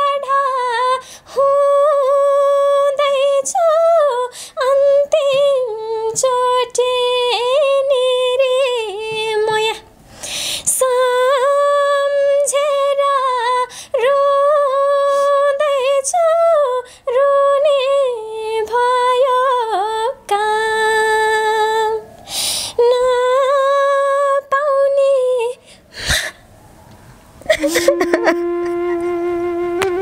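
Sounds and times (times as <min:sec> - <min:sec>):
woman singing unaccompanied: 0:00.0 - 0:09.9, 0:10.6 - 0:22.1, 0:22.8 - 0:25.6, 0:27.6 - 0:30.0.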